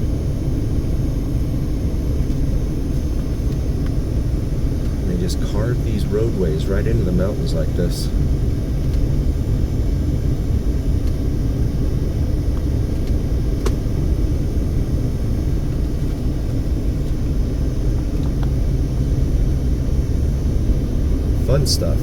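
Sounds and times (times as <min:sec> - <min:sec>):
car cabin engine and tyre noise: 0:00.1 - 0:22.0.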